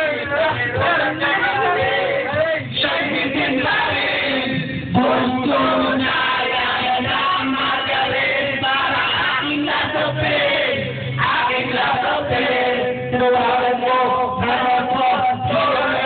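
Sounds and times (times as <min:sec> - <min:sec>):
backing music: 0:00.0 - 0:16.0
men singing together: 0:00.0 - 0:16.0.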